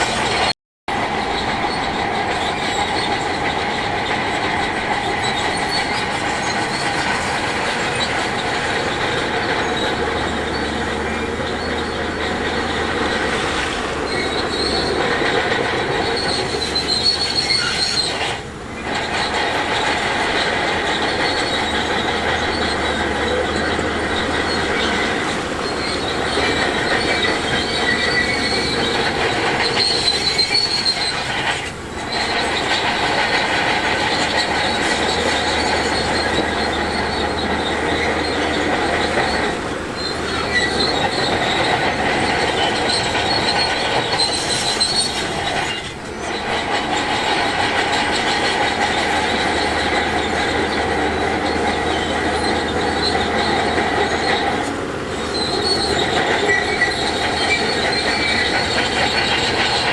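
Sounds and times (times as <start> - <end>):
diesel engines running: 0.0 - 59.9
metallic squeal and clatter: 0.0 - 59.9.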